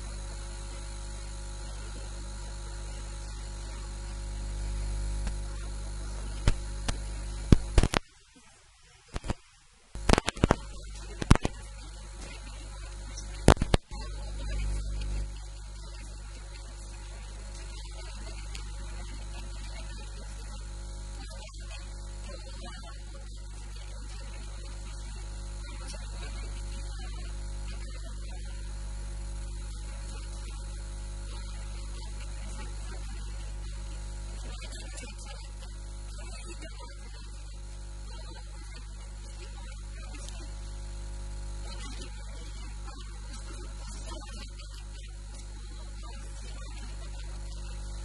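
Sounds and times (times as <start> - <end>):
electrical mains hum: 0.0 - 48.0.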